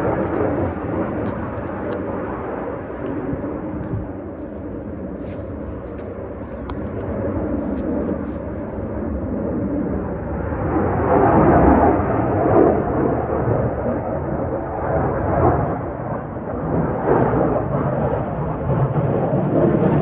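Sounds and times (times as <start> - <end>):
aircraft flying over: 0.0 - 20.0.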